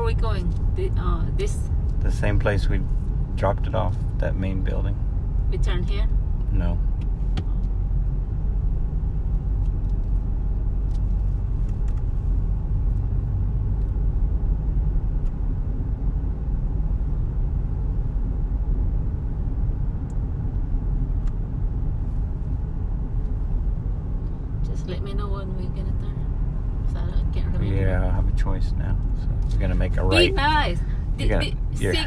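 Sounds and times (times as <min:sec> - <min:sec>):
road rumble inside car: 0:00.0 - 0:32.0.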